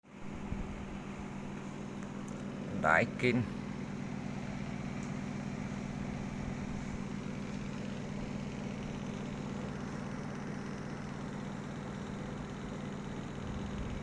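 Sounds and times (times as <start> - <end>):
machine humming: 0.1 - 14.0.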